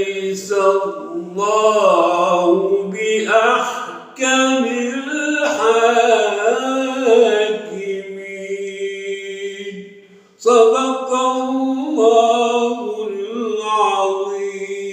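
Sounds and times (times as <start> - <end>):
man chanting melodic recitation: 0.0 - 9.8, 10.4 - 14.9.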